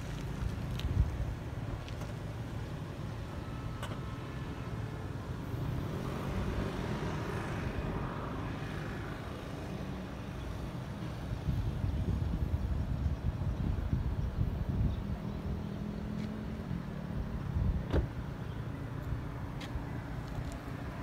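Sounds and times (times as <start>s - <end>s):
distant road traffic: 0.0s - 21.0s.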